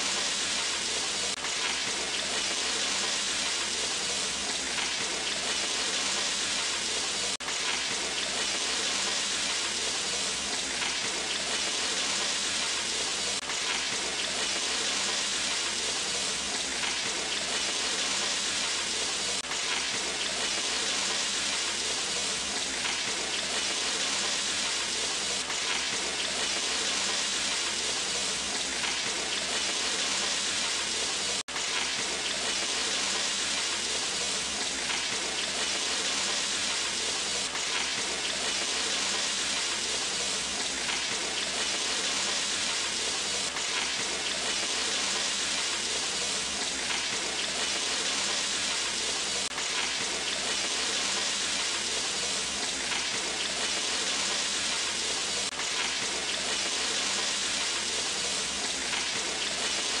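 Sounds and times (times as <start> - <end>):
vegetables sizzling in hot oil: 0.0 - 60.0.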